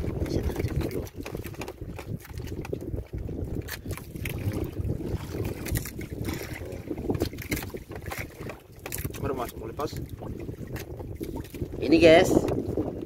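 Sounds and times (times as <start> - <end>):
water sloshing against wooden boat: 0.0 - 13.0
wind buffeting microphone: 0.0 - 13.0.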